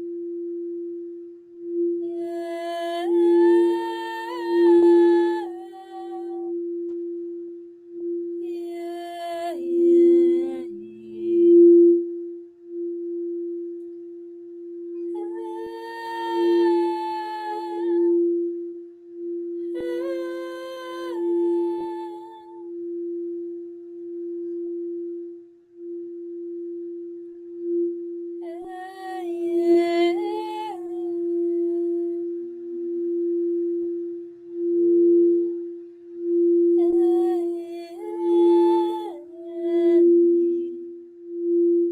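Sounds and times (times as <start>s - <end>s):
person humming a held note: 0.0s - 41.9s
singing bowl ringing: 0.0s - 41.9s.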